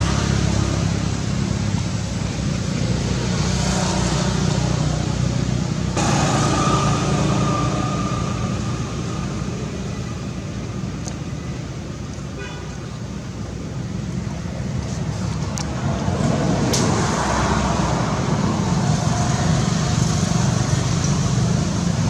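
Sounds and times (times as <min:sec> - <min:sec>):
passing vehicles rumble: 0:00.0 - 0:22.0.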